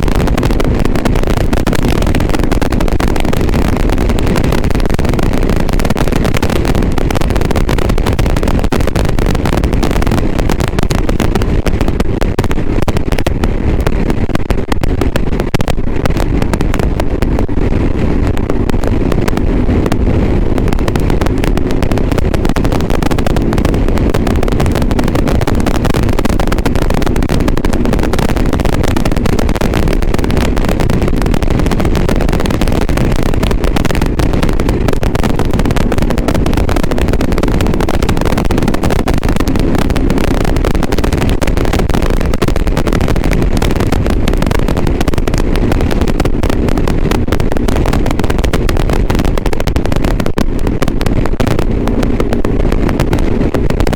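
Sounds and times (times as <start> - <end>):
crackling and popping distortion: 0.0 - 53.9
motorcycle engine: 0.0 - 53.9
wind noise: 0.0 - 53.9.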